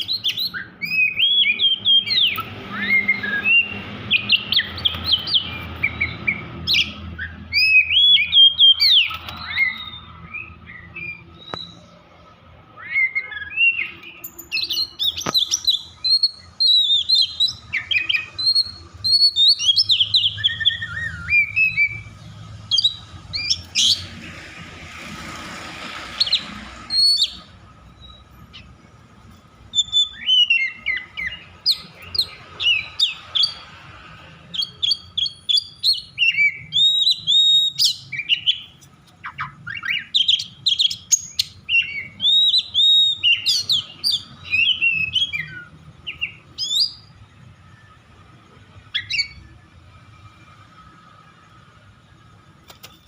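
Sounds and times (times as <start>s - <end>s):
songbird singing whistles and chirps: 0.0s - 24.2s, 26.0s - 52.5s.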